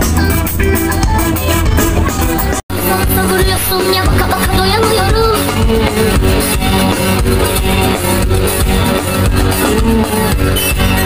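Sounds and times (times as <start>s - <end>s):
guitar-led band music over pa: 0.0s - 11.0s.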